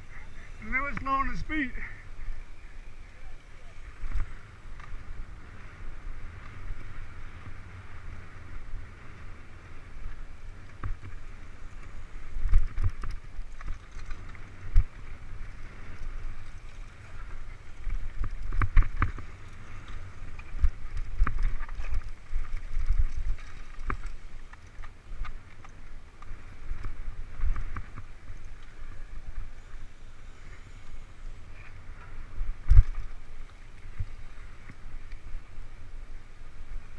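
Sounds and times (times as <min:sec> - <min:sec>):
bike knocking and rattling: 0:00.0 - 0:35.6
wind rumble on microphone: 0:00.0 - 0:36.9.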